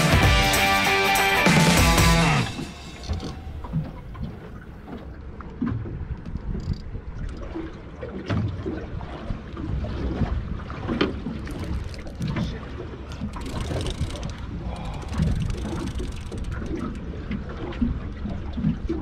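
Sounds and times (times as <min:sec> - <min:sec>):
water lapping against boat hull: 0:02.5 - 0:19.0.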